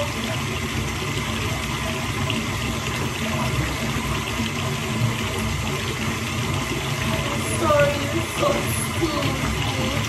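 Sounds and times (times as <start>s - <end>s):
shower water running into bathtub: 0.0s - 10.0s.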